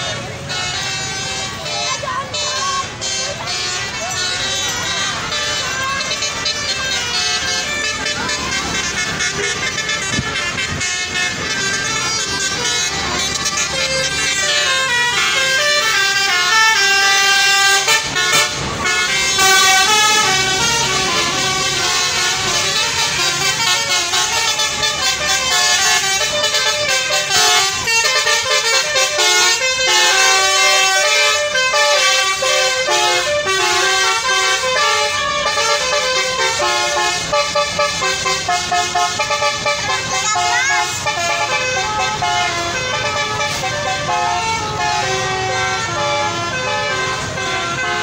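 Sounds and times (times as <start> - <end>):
multi-tone bus horns: 0.0 - 48.0.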